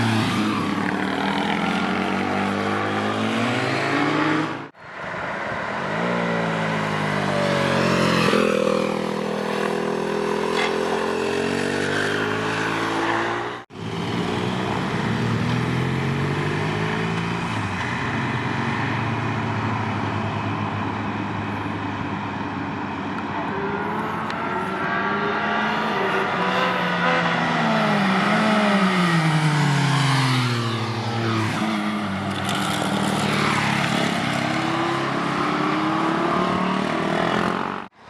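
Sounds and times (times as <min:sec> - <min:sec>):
motorcycle engines revving past: 0:00.0 - 0:04.7, 0:05.8 - 0:20.6, 0:23.3 - 0:37.9.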